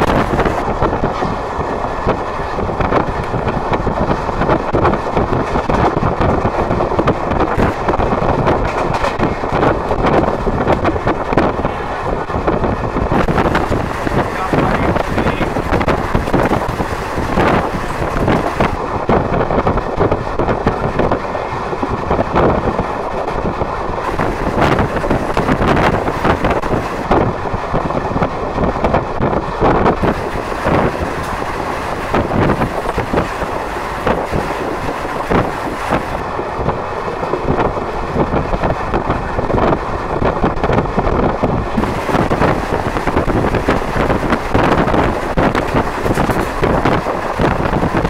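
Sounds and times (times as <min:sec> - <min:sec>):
train running noise: 0:00.0 - 0:48.0
wind buffeting microphone: 0:00.0 - 0:48.0.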